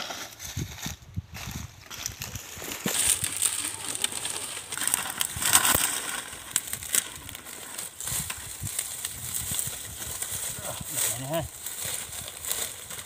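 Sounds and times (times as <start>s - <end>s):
dry fronds crunching underfoot: 0.0s - 13.0s.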